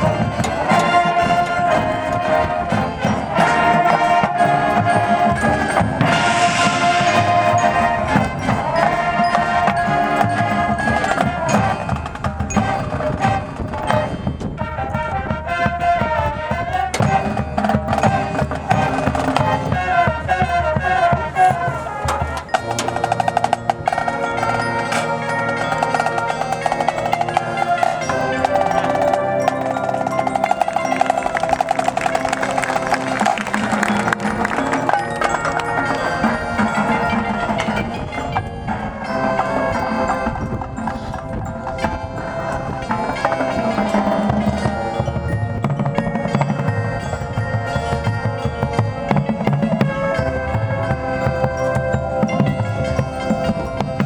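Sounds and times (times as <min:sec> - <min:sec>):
mallet percussion: 0:00.0 - 0:54.0
marching band playing: 0:00.0 - 0:54.0.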